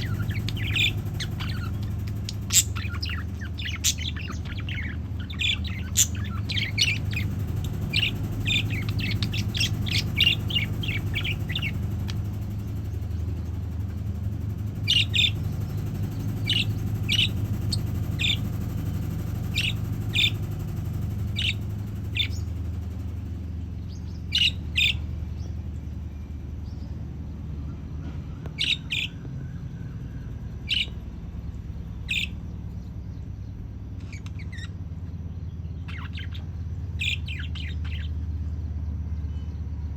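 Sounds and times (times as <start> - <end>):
budgerigars chirping: 0.0 - 39.6
steady low hum: 0.0 - 39.9.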